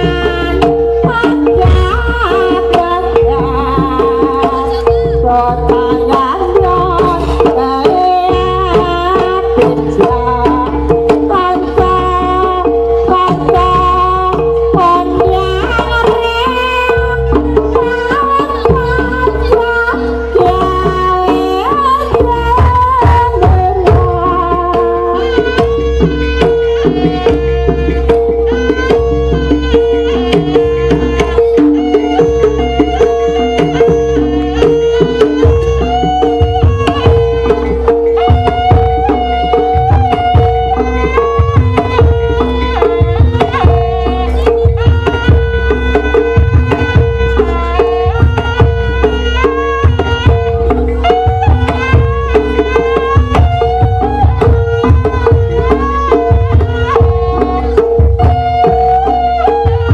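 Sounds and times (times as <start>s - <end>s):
hand drums beating: 0.0s - 59.9s.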